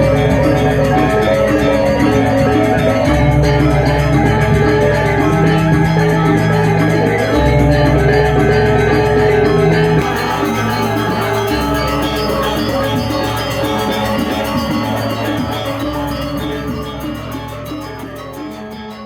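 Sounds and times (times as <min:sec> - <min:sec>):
gamelan music with metallophones: 0:00.0 - 0:19.0.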